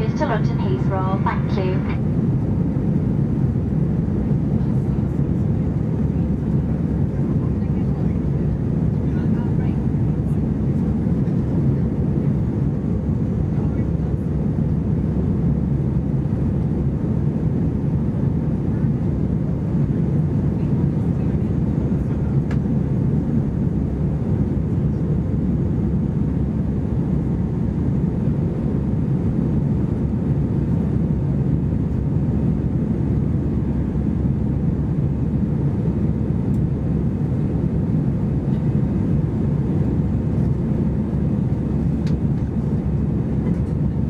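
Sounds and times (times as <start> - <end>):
airplane cabin engine drone: 0.0 - 44.0.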